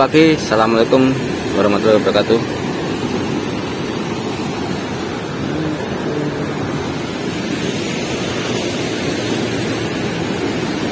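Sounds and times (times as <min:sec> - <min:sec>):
floodwater rushing over weir: 0:00.0 - 0:10.9.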